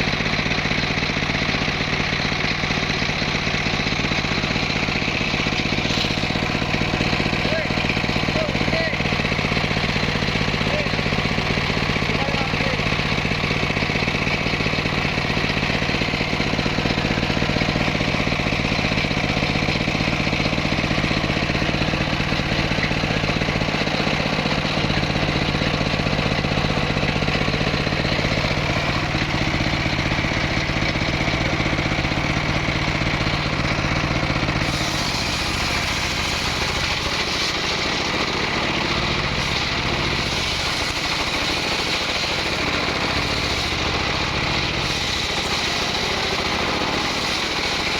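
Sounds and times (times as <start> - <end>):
small petrol engine running: 0.0 - 47.9.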